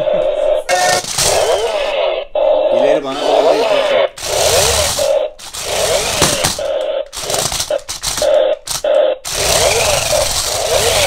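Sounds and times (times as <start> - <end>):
toy car motors whirring: 0.7 - 2.0, 3.1 - 11.0.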